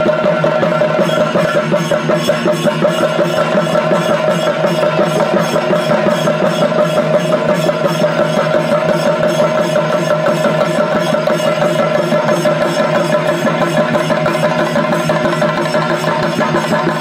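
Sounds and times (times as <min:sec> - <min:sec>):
drums beaten in fast roll: 0:00.0 - 0:17.0.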